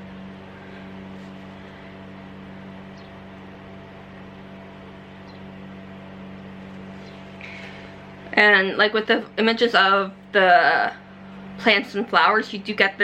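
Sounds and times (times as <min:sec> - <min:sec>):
lawn mower engine humming: 0:00.0 - 0:13.0.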